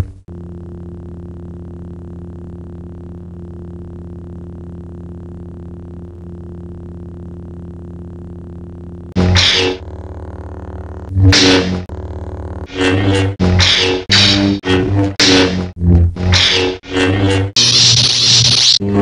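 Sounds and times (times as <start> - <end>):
low electronic drone: 0.0 - 19.0.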